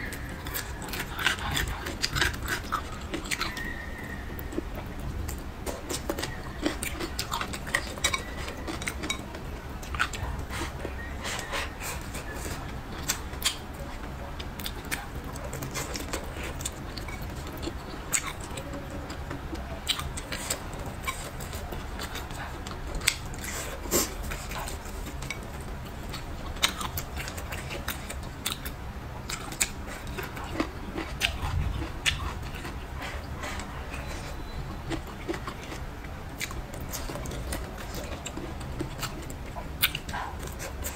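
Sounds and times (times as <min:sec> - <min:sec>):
wet chewing and mouth sounds: 0:00.0 - 0:40.9.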